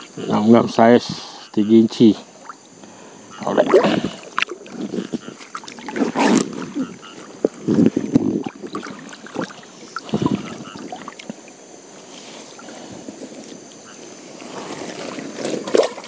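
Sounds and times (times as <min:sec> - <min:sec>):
water splashing and sloshing: 0:02.2 - 0:16.0.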